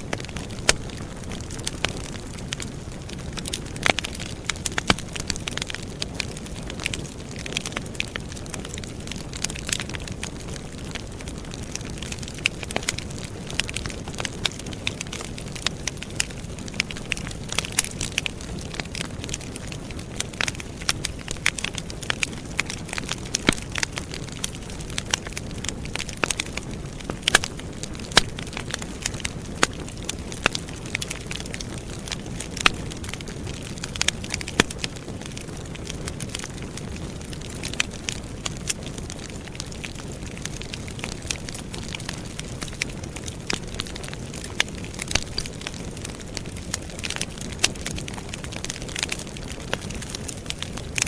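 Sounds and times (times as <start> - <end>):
campfire crackling and popping: 0.0 - 51.0
low rumble of burning: 0.0 - 51.0.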